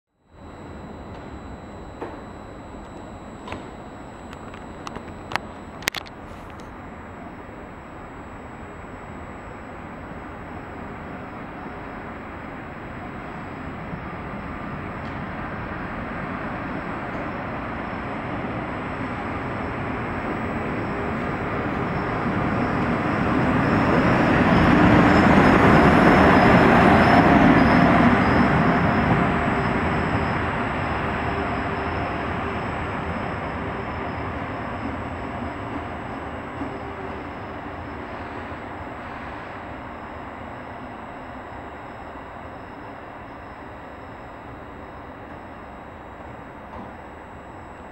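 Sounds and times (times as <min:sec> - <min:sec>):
electric locomotive passing: 0:04.4 - 0:47.9.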